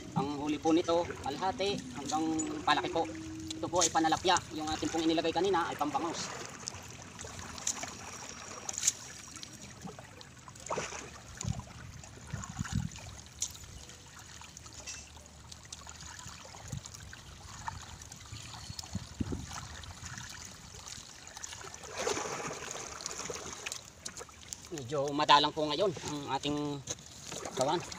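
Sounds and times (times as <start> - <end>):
water trickling and dripping: 0.0 - 27.9.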